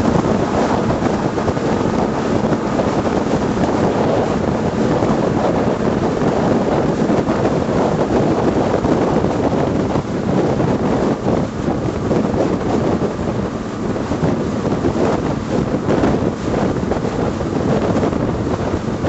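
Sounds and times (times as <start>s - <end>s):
boat engine rumble: 0.0s - 19.0s
water noise: 0.0s - 19.0s
wind on microphone: 0.0s - 19.0s.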